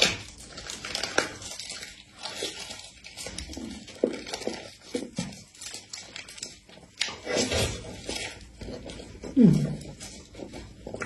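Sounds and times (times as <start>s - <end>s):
paper liner crinkling: 0.0s - 11.0s.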